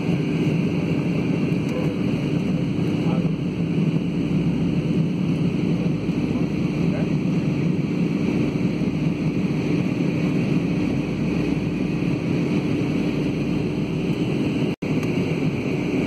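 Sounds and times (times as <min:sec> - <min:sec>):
jet engine drone: 0:00.0 - 0:16.0
steady low hum: 0:00.0 - 0:16.0.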